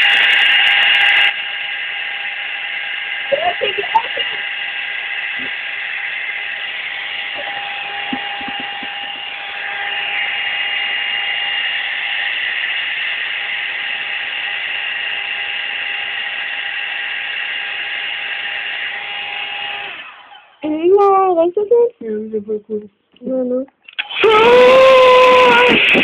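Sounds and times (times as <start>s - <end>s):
hair dryer running: 0.0s - 20.6s, 24.0s - 26.0s.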